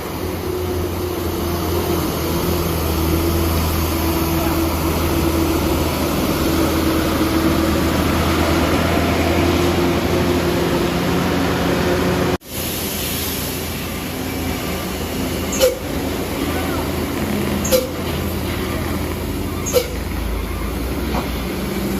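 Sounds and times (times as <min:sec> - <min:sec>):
vehicle engines running: 0:00.0 - 0:12.4, 0:13.5 - 0:21.9.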